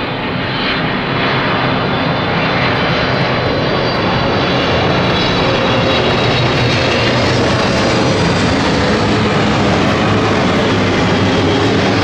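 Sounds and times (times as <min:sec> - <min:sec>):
jet airliner passing overhead: 0:00.0 - 0:12.0.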